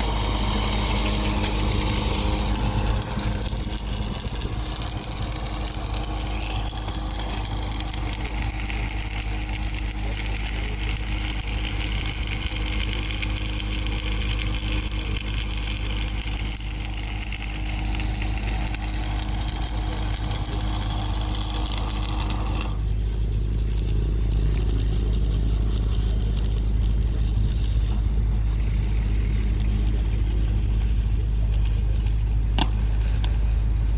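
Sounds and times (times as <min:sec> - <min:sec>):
diesel engine humming: 0:00.0 - 0:33.9.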